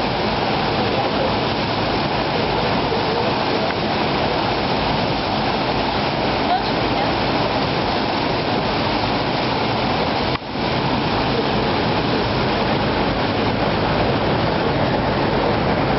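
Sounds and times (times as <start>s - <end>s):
water rushing: 0.0s - 15.9s
wind: 0.0s - 15.9s.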